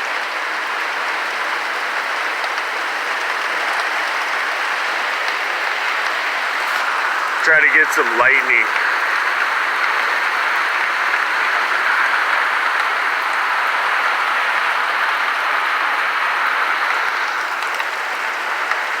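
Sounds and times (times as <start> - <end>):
torrential rain pouring: 0.0 - 19.0.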